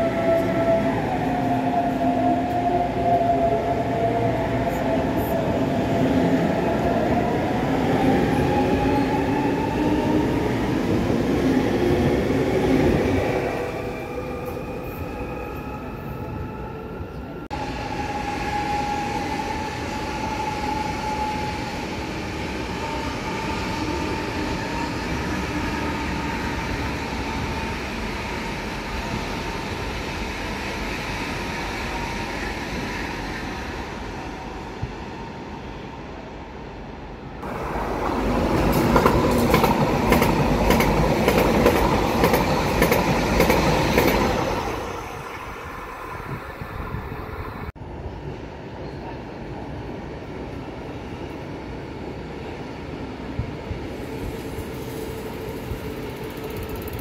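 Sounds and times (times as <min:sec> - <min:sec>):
train passing close by: 0:00.0 - 0:57.0.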